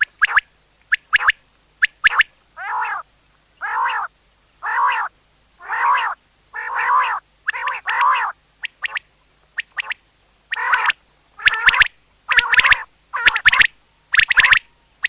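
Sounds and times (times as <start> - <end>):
quail calling harsh notes: 1.0 - 14.7.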